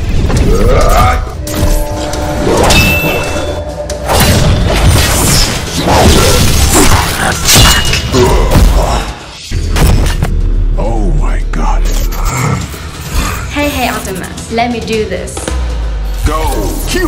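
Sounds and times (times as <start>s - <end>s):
dramatic background music: 0.0s - 17.0s.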